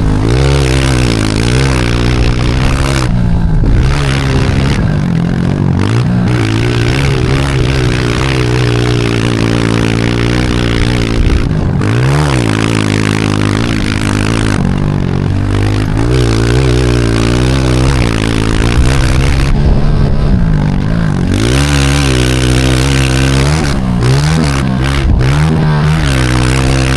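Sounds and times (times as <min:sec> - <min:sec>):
motorbike engine revving: 0:00.0 - 0:26.9
steady noisy rush: 0:00.0 - 0:26.9.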